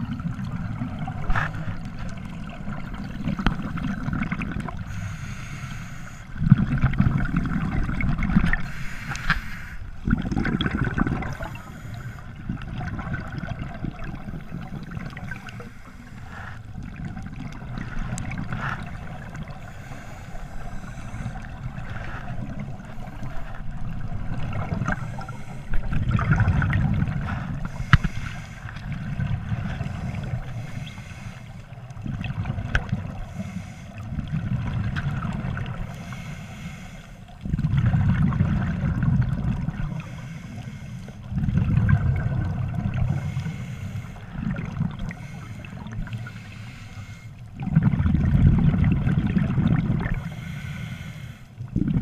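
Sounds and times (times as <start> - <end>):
underwater bubbles gurgling: 0.0 - 52.0.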